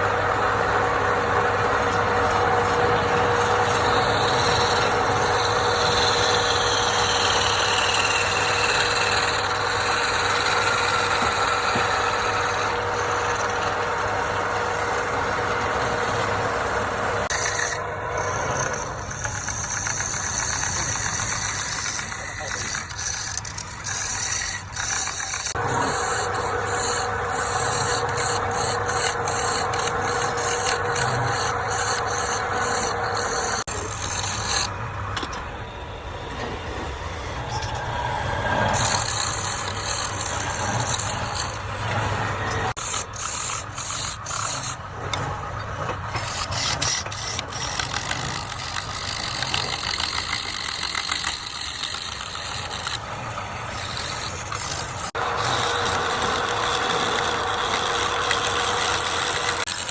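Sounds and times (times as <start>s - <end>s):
tool scraping spinning wood: 0.0s - 35.5s, 36.2s - 59.9s
lathe motor hum: 0.0s - 59.9s.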